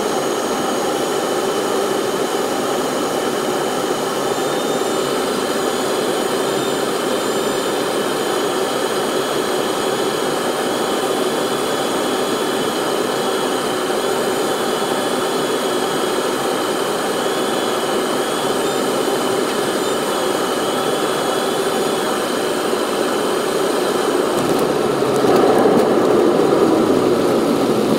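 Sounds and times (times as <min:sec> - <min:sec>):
jet engine cabin noise: 0:00.0 - 0:27.9
aircraft touching down: 0:01.9 - 0:27.9.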